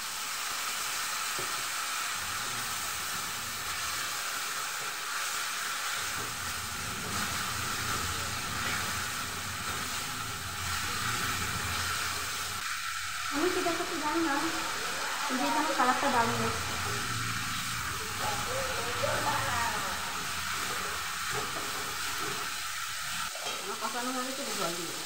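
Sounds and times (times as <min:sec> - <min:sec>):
food frying sizzle: 0:00.0 - 0:25.0.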